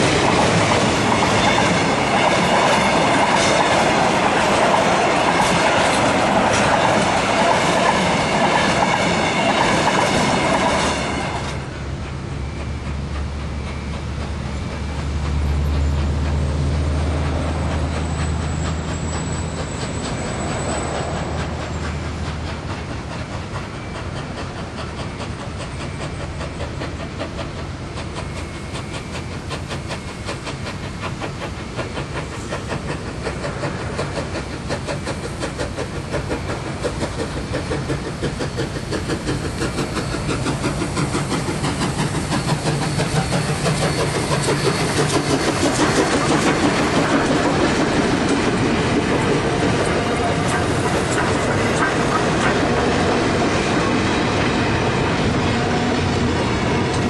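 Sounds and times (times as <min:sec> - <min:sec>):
steam hiss: 0:00.0 - 0:57.0
steam locomotive chuffing: 0:00.0 - 0:57.0.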